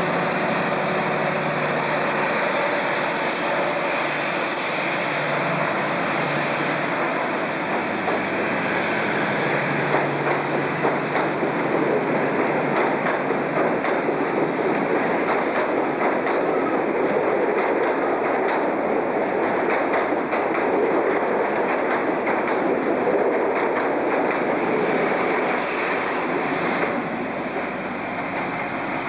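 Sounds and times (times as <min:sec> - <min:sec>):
diesel train rumbling past: 0:00.0 - 0:29.0.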